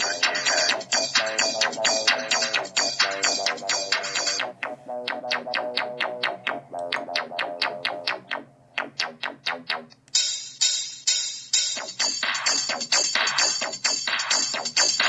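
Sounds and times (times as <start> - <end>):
electronic music with guitar on phone speaker: 0.0 - 15.0.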